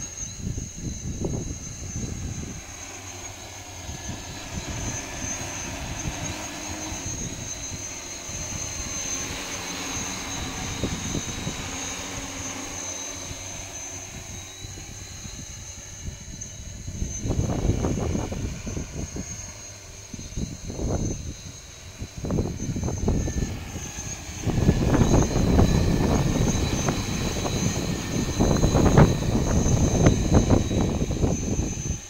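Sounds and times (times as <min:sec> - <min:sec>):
drone rotors flying: 0:00.0 - 0:32.0.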